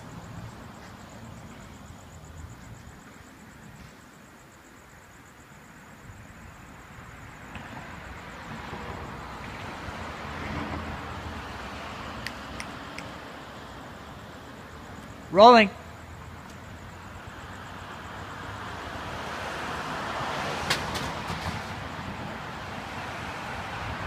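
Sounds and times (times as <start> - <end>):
car passing: 0.0 - 24.0.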